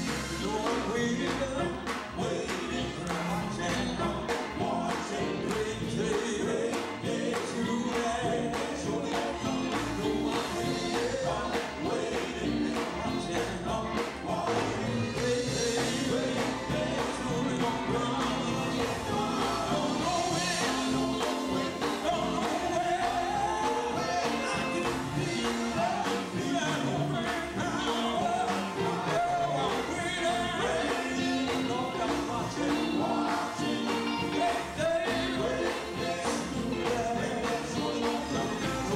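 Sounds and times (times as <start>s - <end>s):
band with electric guitars and drums: 0.0s - 38.9s
men singing harmonies: 0.0s - 38.9s.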